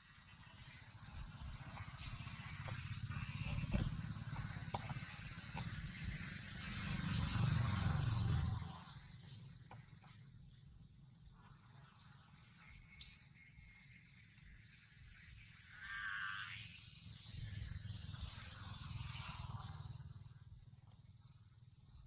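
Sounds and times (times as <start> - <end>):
high-pitched whine: 0.0 - 10.9, 12.4 - 21.7.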